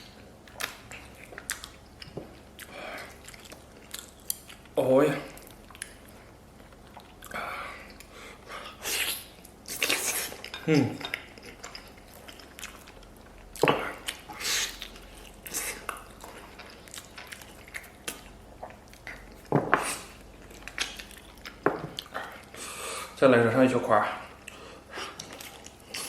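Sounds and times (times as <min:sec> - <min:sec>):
wet chewing and smacking: 0:00.0 - 0:22.6, 0:24.3 - 0:26.0.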